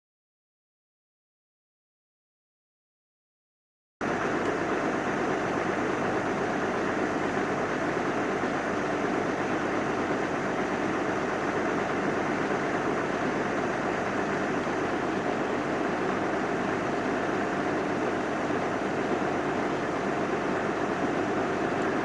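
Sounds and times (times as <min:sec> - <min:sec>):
engine idling: 0:04.0 - 0:22.0.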